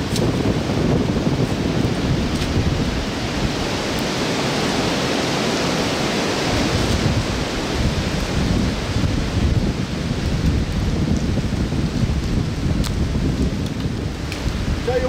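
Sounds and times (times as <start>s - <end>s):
strong wind through woods: 0.0s - 15.0s
wind rumble on microphone: 0.0s - 15.0s.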